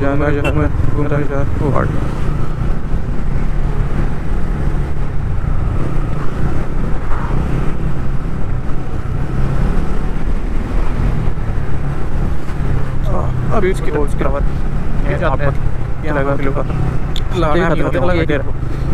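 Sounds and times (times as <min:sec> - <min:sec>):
road and wind noise: 0:00.0 - 0:18.9.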